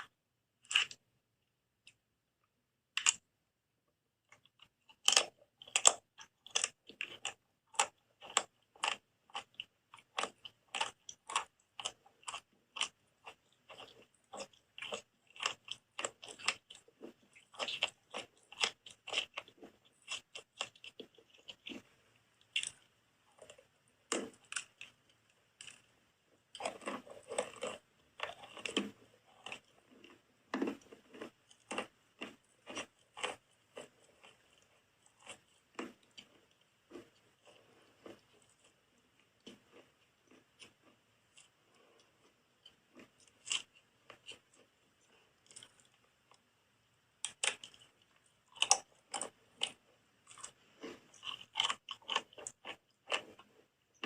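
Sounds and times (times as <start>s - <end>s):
soap being chewed crunching: 0.0s - 1.1s, 4.2s - 46.5s, 47.1s - 54.0s.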